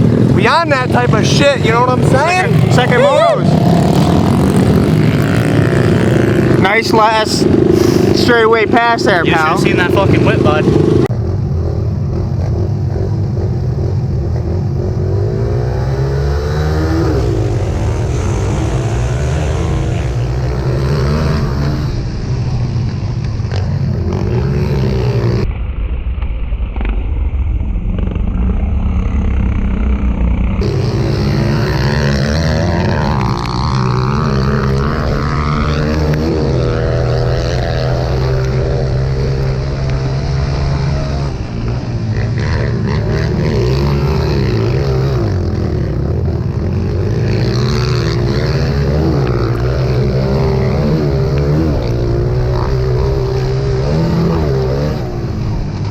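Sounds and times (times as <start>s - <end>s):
pit bike engines revving: 0.0s - 25.6s, 26.8s - 55.9s.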